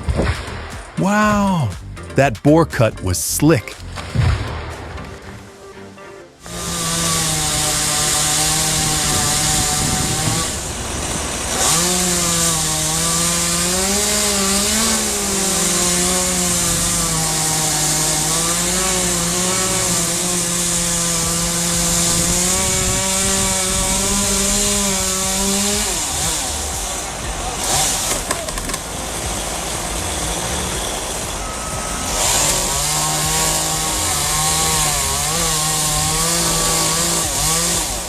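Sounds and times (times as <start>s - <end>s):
chainsaw cutting wood: 6.4s - 38.0s.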